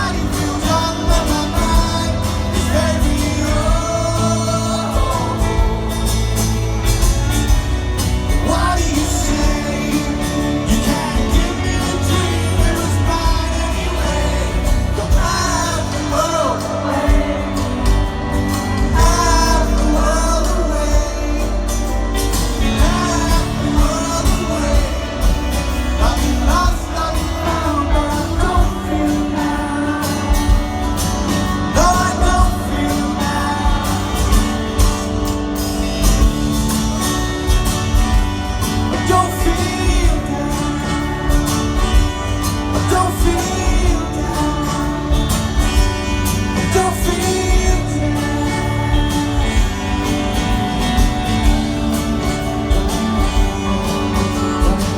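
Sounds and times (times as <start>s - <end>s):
man singing lead vocal: 0.0s - 54.9s
rock band playing live: 0.0s - 54.9s.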